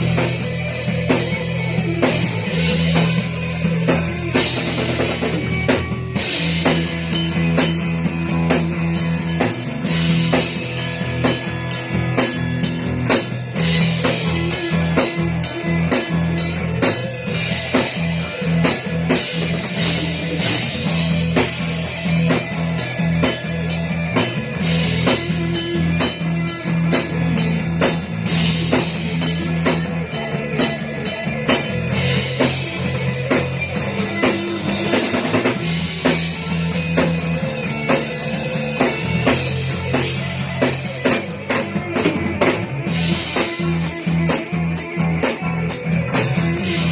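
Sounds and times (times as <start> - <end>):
bass: 0.0 - 46.9
drum kit beat: 0.0 - 46.9
guitar: 0.0 - 46.9.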